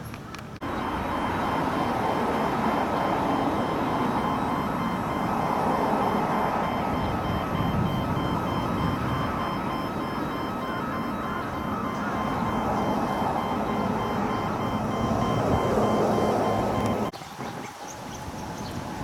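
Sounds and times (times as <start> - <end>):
distant road traffic: 0.0 - 19.0
faint high repeating tones: 0.6 - 17.1.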